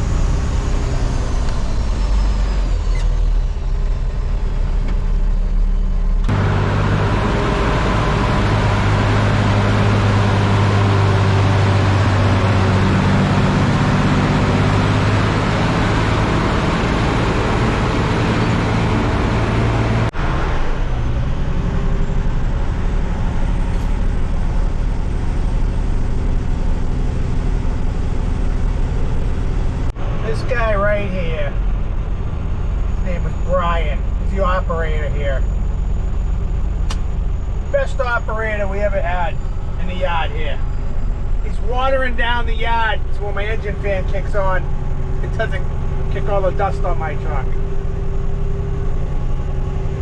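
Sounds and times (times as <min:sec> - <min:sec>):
dump truck diesel engine running: 0:00.0 - 0:50.0.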